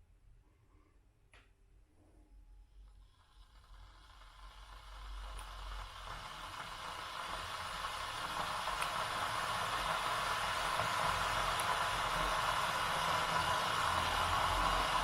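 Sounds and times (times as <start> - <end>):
kettle heating water: 2.7 - 15.0.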